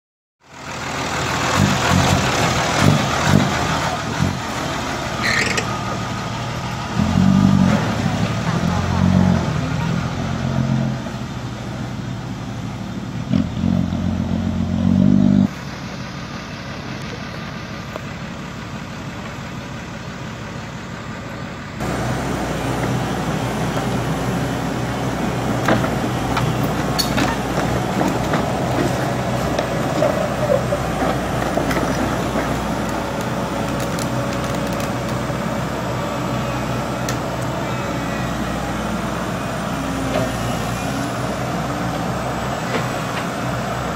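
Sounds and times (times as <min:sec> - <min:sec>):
heavy diesel engine running: 0:00.4 - 0:43.9.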